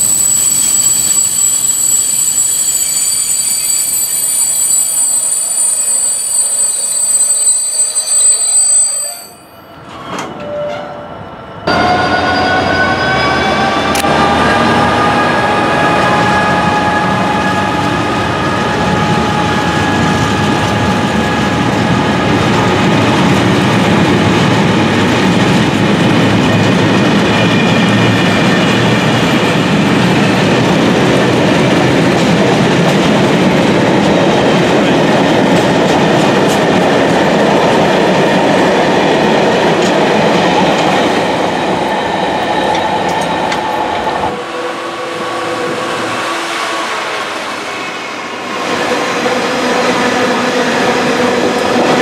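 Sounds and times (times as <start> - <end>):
freight train approaching: 0.0 - 52.0
freight train rumbling past: 9.6 - 52.0.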